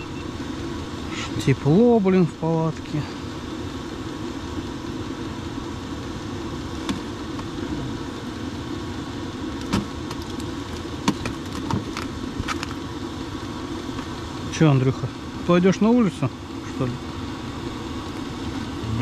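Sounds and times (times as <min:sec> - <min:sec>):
heater droning: 0:00.0 - 0:19.0.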